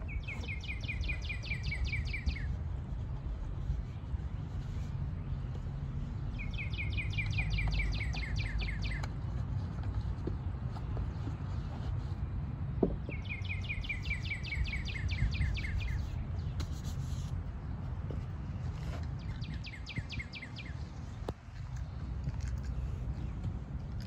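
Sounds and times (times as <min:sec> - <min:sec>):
songbird singing: 0:00.0 - 0:12.0, 0:12.8 - 0:24.0
low outdoor rumble: 0:00.0 - 0:24.0.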